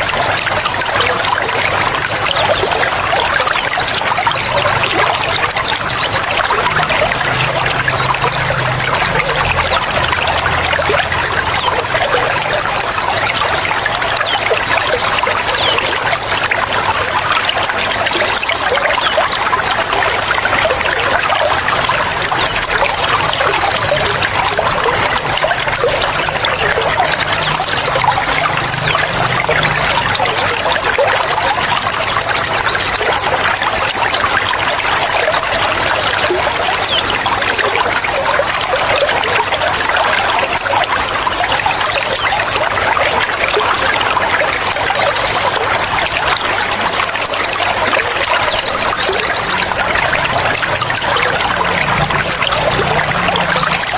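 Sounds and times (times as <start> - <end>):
birds chirping: 0.0 - 53.9
water flowing and splashing: 0.0 - 53.9.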